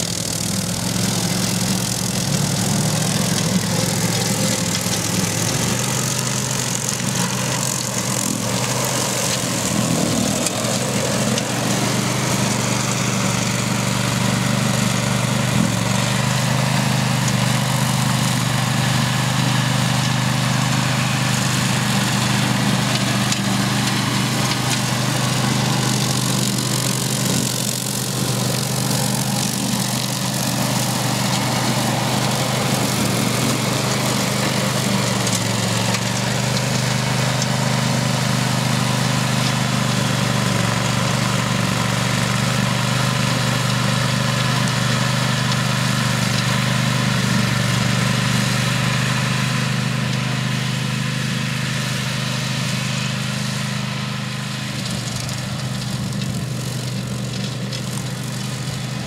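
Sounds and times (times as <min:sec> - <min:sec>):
mower engine cutting grass: 0:00.0 - 0:59.0.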